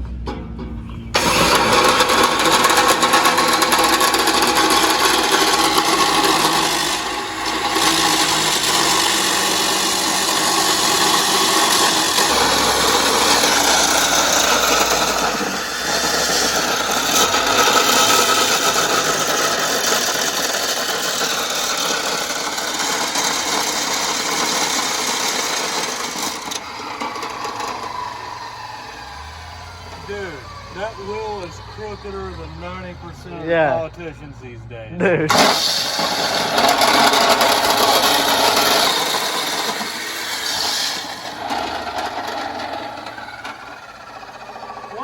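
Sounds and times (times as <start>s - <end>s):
power tool working steel: 0.8s - 34.1s, 35.0s - 45.0s.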